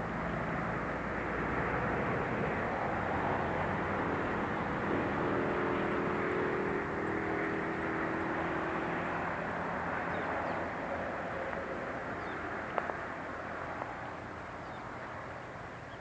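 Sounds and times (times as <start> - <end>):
city traffic noise: 0.0 - 16.0.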